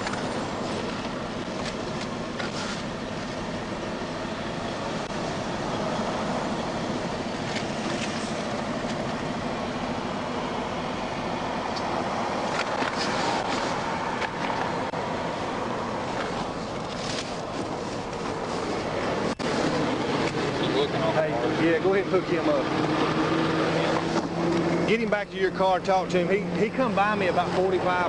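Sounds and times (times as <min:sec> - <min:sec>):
highway traffic roar: 0:00.0 - 0:28.0
heavy vehicle passing: 0:04.4 - 0:28.0.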